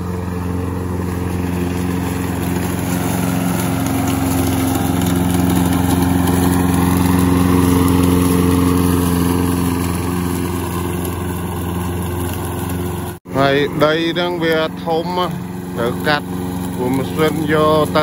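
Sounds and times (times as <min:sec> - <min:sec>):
lawn mower running: 0:00.0 - 0:18.0.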